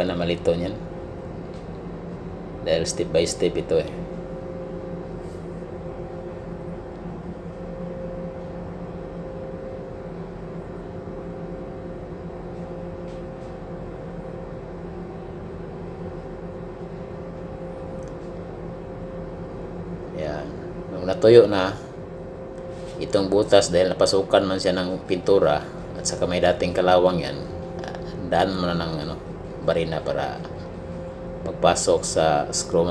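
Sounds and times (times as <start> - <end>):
ship machinery humming: 0.0 - 32.9.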